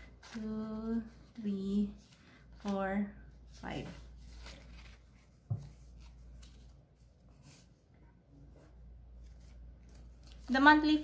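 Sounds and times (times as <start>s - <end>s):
banknotes rustling and flicking: 0.0s - 7.8s, 9.1s - 11.0s.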